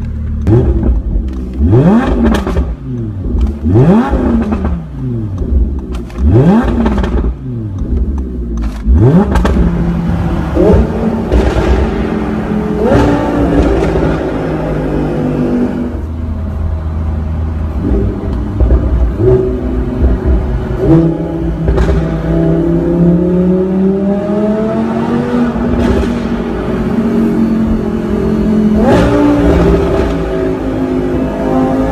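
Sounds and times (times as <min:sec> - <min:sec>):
car engine revving and accelerating: 0:00.4 - 0:16.1, 0:17.2 - 0:31.9.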